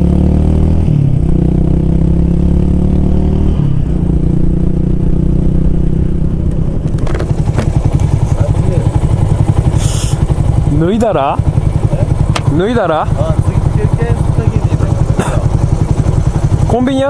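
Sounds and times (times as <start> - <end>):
motorcycle engine shifting gears: 0.0 - 17.0.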